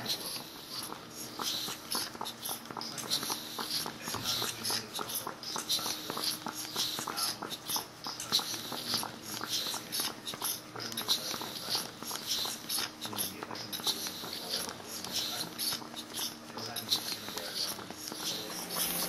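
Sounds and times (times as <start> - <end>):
air puffs hissing: 0.0 - 19.0.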